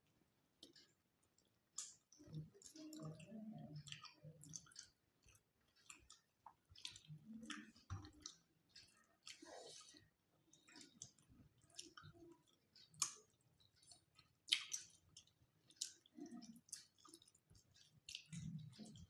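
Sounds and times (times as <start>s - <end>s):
faint chewing and lip-smacking: 0.0s - 19.0s
soft mouth clicks: 1.8s - 17.4s.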